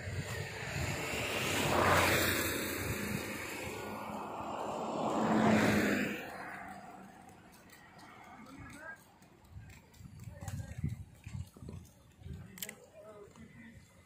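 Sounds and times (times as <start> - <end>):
vehicles passing by: 0.0 - 14.0.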